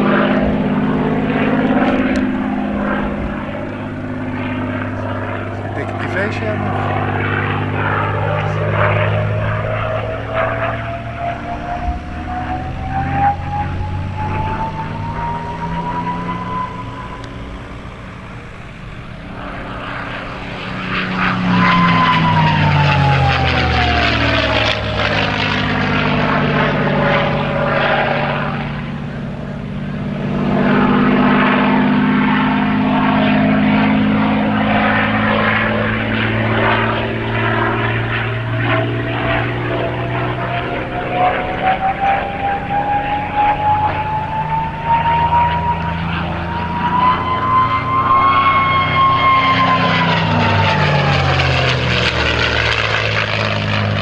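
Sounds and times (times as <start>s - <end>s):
propeller plane engine passing: 0.0s - 54.0s.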